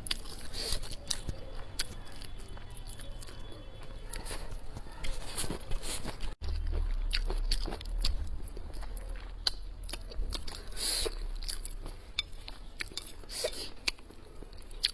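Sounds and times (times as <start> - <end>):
person chewing crunchy food: 0.0 - 14.9.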